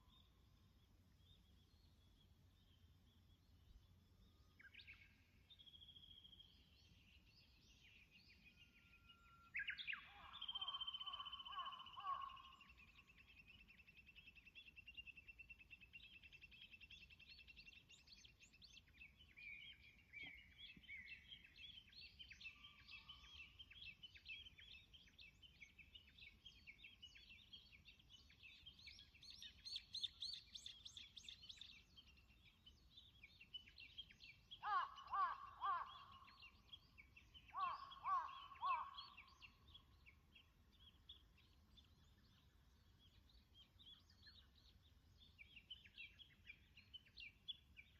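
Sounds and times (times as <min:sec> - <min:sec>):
songbirds singing and chirping: 0:00.0 - 0:47.9
loud bird calls of repeated notes: 0:04.2 - 0:14.7, 0:15.3 - 0:47.9.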